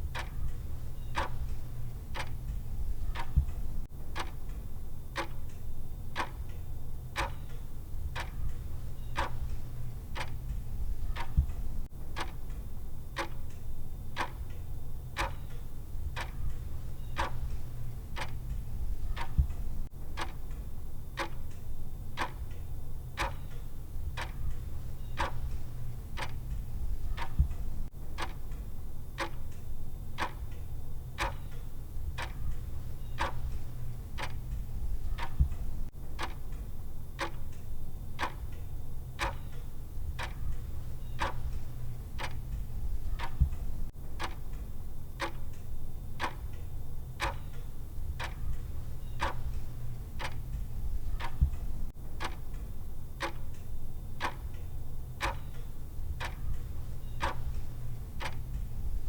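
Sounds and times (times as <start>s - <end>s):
timer ticking: 0.0s - 59.0s.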